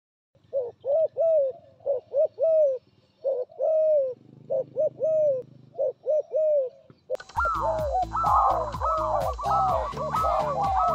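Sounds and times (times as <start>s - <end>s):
dove cooing: 0.4s - 10.9s.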